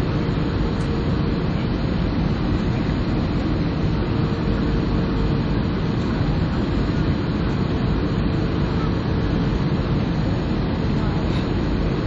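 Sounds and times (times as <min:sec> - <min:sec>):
faint steady hum: 0:00.0 - 0:12.0
jet engine and airflow roar: 0:00.0 - 0:12.0.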